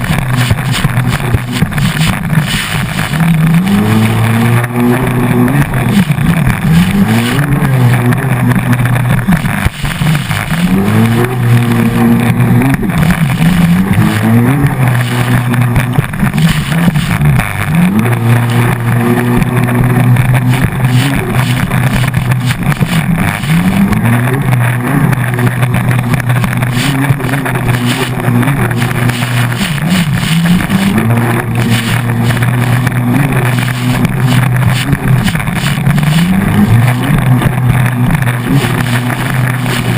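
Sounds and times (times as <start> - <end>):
jet ski engine running hard: 0.0 - 39.9
rush of wind and water: 0.0 - 39.9.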